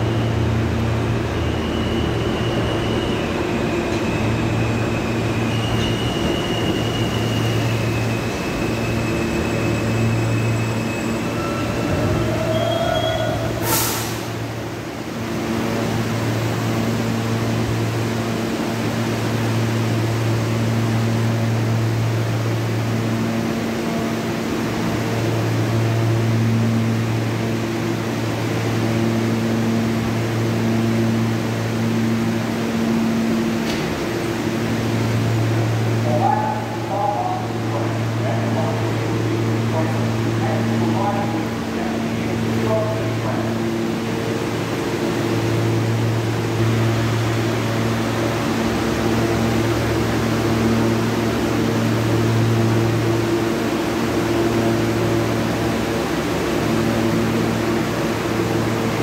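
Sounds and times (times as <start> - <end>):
subway car rumbling: 0.0 - 59.0.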